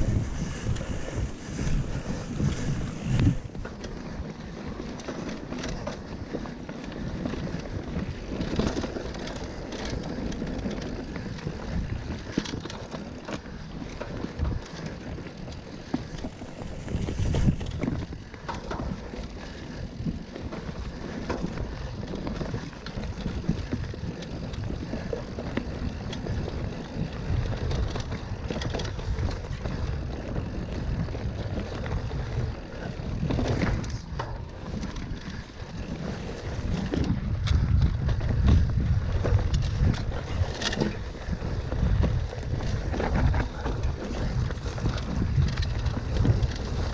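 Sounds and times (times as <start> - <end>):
bike rattling over bumps: 0.0 - 46.9
bike tyres rolling over dirt trail: 0.0 - 46.9.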